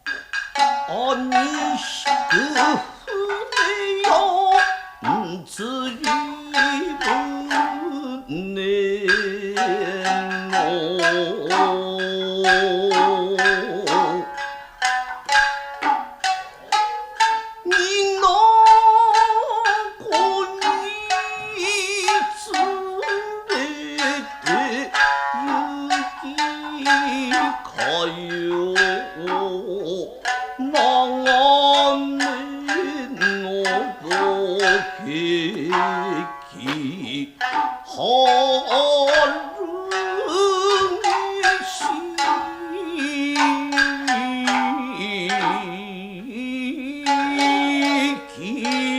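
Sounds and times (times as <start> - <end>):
long held melodic lines: 0.0 - 48.9
shamisen plucked rapidly: 0.0 - 48.9.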